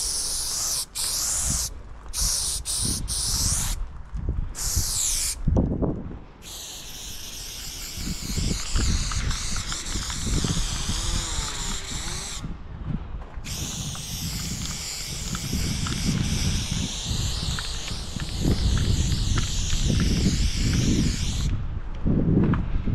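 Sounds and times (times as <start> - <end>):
spray paint can hissing: 0.0 - 3.8, 4.6 - 5.4, 6.4 - 12.5, 13.4 - 21.6.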